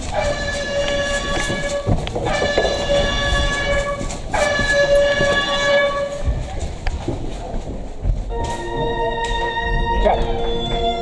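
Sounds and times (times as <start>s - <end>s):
loud horn-like tone blasts: 0.0s - 6.4s, 8.3s - 11.0s.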